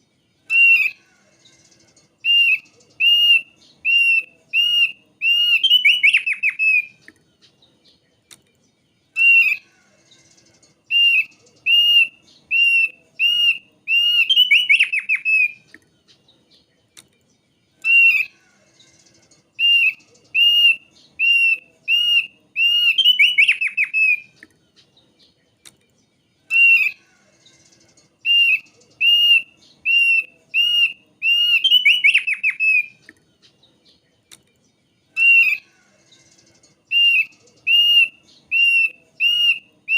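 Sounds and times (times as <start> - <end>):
bird whistling song with trill: 0.4 - 8.0, 9.1 - 16.7, 17.8 - 25.3, 26.4 - 33.1, 35.1 - 39.9.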